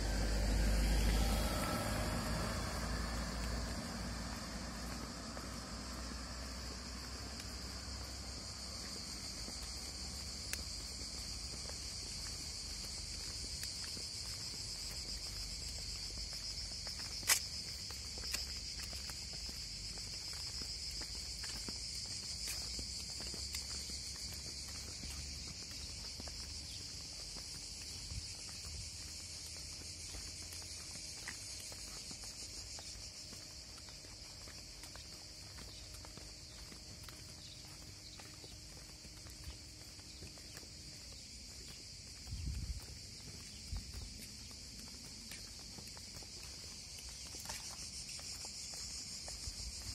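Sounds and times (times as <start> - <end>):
cicadas buzzing: 0.0 - 49.9.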